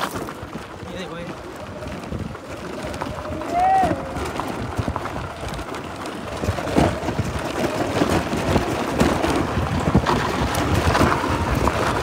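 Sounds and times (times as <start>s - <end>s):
tyres crackling on loose ground: 0.0s - 12.0s
wind buffeting microphone: 0.0s - 12.0s.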